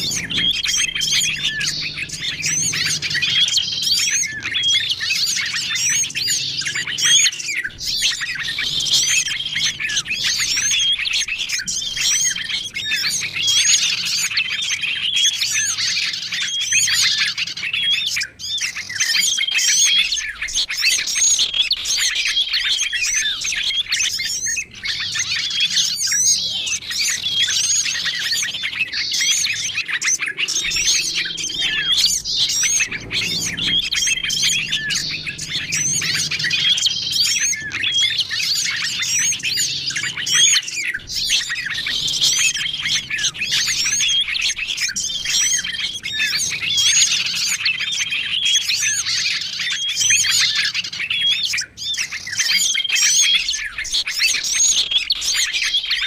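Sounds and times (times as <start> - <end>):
songbirds chirping and calling: 0.0 - 56.0.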